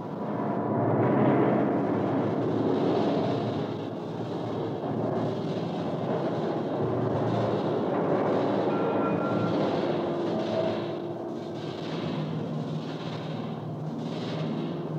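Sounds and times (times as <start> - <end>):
low machine-like noise music: 0.0 - 14.9.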